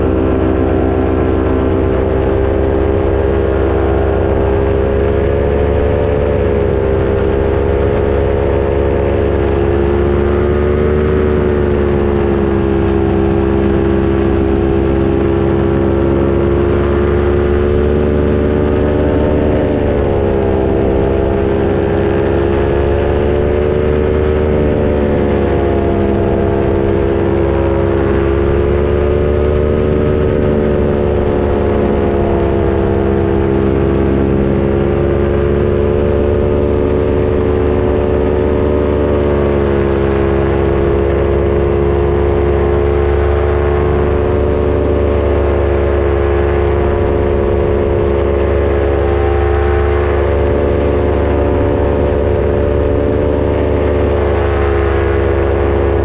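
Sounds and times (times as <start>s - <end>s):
paramotor engine droning: 0.0s - 56.0s.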